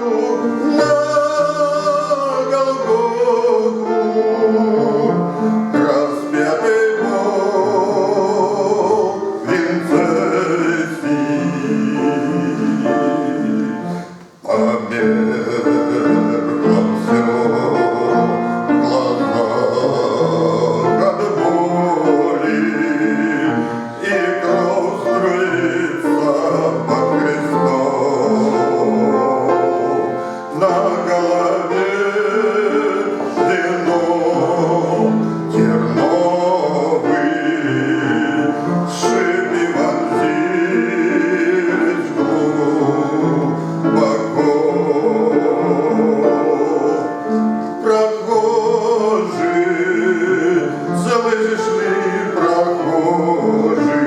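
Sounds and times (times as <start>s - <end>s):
man singing a hymn: 0.0s - 54.0s.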